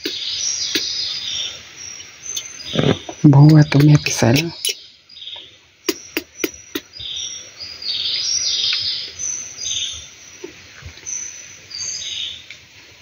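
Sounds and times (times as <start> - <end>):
birds chirping: 0.0 - 12.5.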